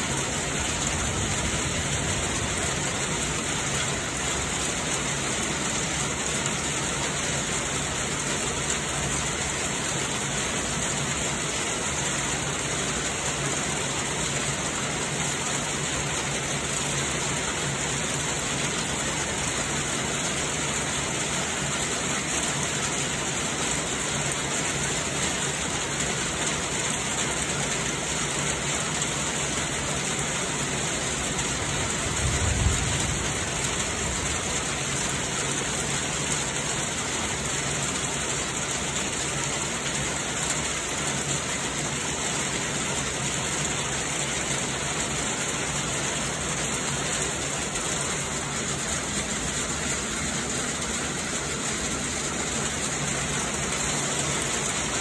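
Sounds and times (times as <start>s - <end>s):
heavy rain splashing in puddles: 0.0s - 55.0s.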